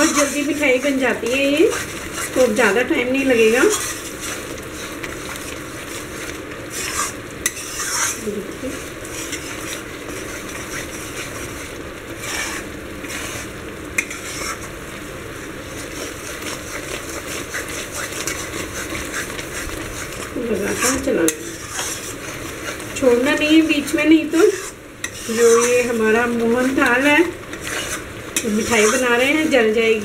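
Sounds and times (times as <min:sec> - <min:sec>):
metal spatula scraping pan: 0:00.0 - 0:14.7, 0:15.7 - 0:30.0
mixture sizzling: 0:00.0 - 0:30.0.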